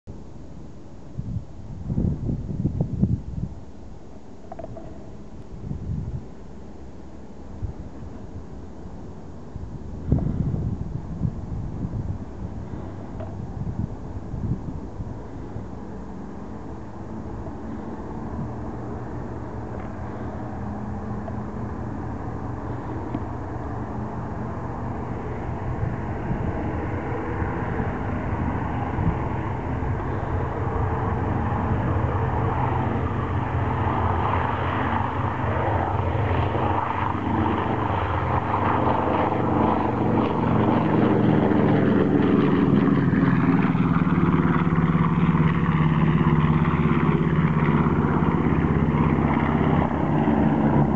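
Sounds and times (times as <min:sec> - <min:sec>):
aircraft engines running: 0:00.1 - 0:50.9.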